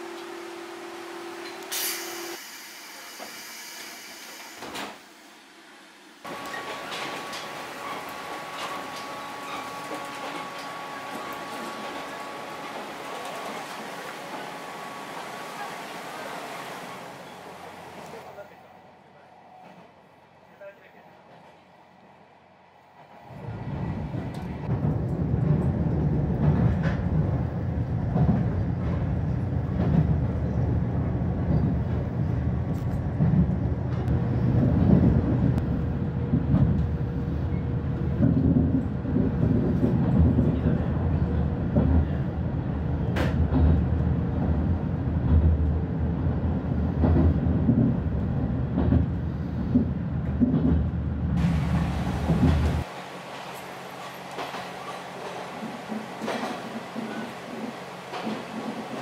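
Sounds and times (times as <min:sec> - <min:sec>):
train wheels rumbling on rail: 0:06.2 - 0:18.4, 0:22.8 - 0:59.0.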